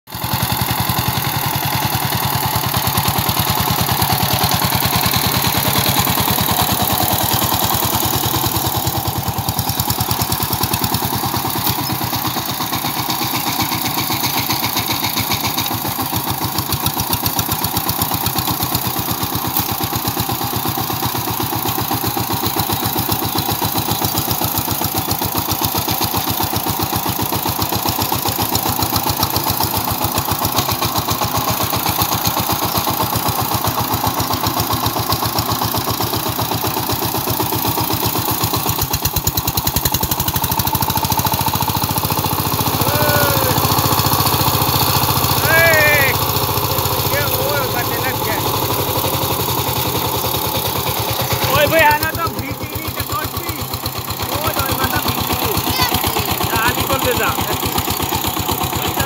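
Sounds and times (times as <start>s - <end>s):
diesel engine chugging: 0.1s - 59.0s.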